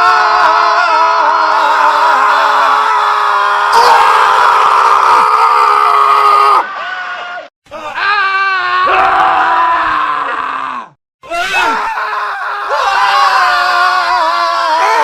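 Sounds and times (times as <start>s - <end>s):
man screaming: 0.0s - 15.0s.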